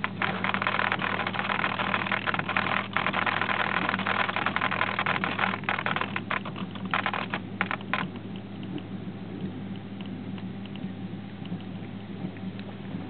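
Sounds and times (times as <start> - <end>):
crackly bursts: 0.0 - 13.0
low electrical hum: 0.0 - 13.0.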